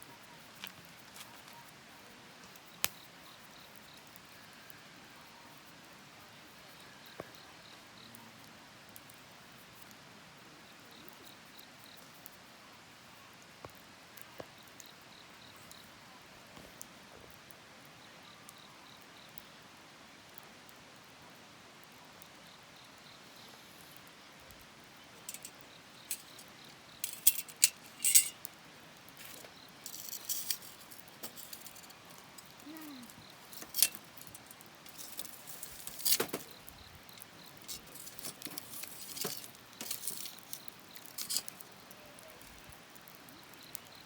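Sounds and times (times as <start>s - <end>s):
wood fire crackling: 0.1s - 44.0s.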